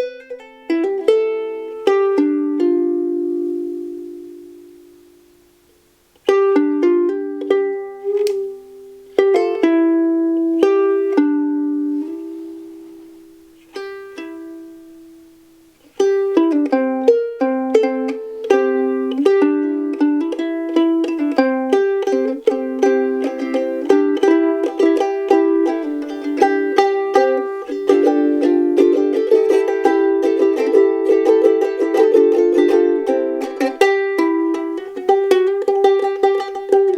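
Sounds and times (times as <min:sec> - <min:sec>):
ukulele plucked: 0:00.0 - 0:36.9.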